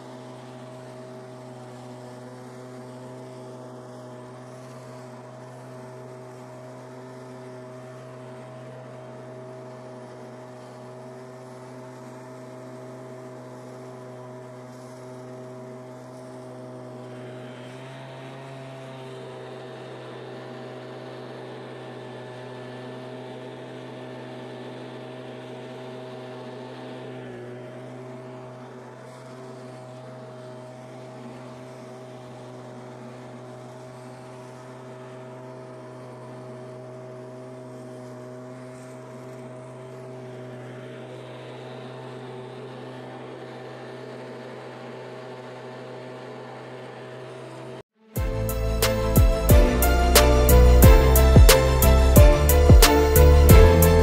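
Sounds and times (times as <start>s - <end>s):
leaf blower engine running: 0.0s - 54.0s.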